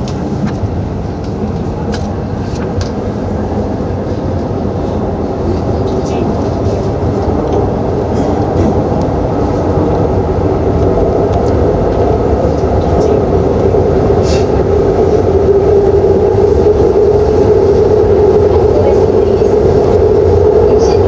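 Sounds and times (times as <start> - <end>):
metro train wheels rumbling: 0.0 - 21.0
train hum: 0.0 - 21.0.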